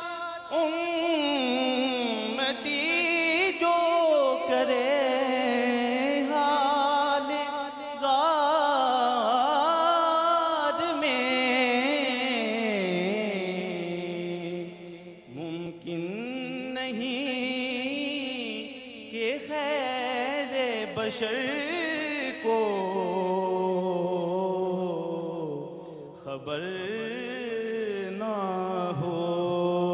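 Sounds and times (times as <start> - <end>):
man chanting a devotional poem: 0.0 - 29.9.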